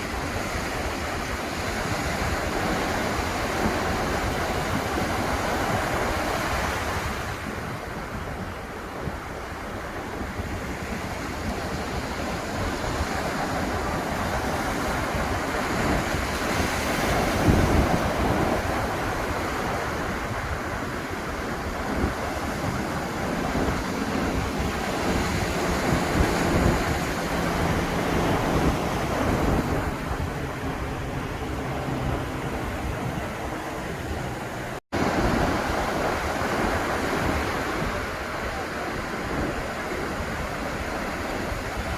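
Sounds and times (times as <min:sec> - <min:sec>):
waves breaking on beach: 0:00.0 - 0:41.9
wind buffeting microphone: 0:00.0 - 0:41.9.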